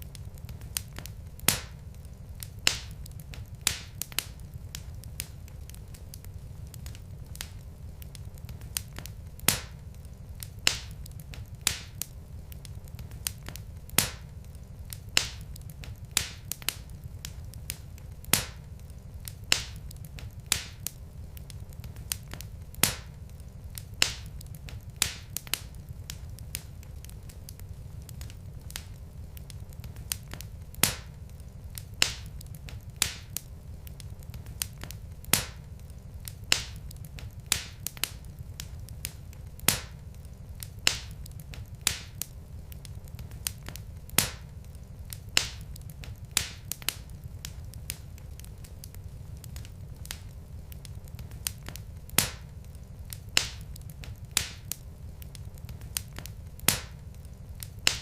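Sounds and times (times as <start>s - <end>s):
logs crackling in a fireplace: 0.0s - 58.0s
low fire rumble: 0.0s - 58.0s.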